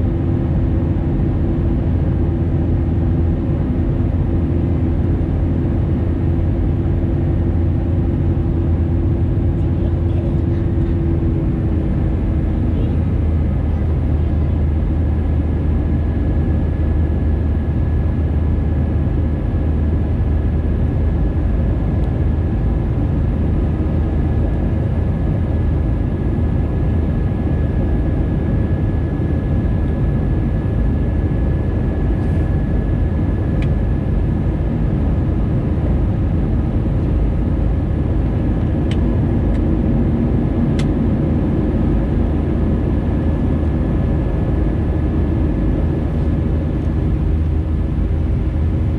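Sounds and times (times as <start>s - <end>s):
jet engines rumbling: 0.0s - 48.9s
steady engine whine: 0.0s - 48.9s.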